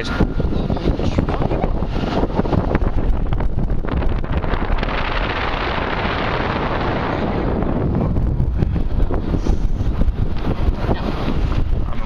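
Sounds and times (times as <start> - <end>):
car road rumble: 0.0 - 12.0
wind buffeting microphone: 0.0 - 12.0.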